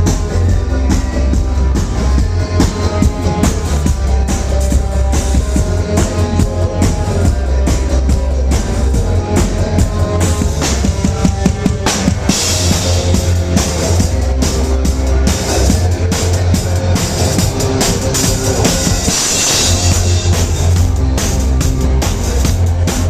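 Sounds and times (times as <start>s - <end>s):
rock band playing loudly: 0.0s - 23.0s.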